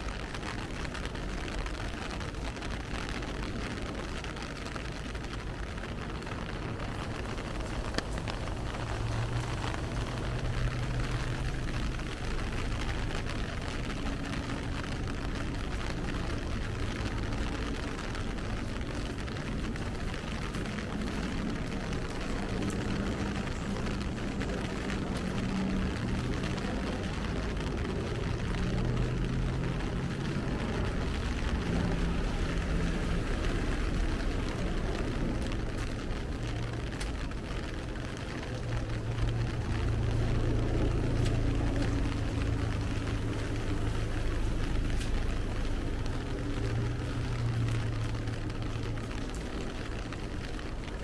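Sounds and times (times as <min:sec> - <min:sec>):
steady rain falling: 0:00.0 - 0:51.0
passing vehicle engines hum: 0:05.3 - 0:51.0.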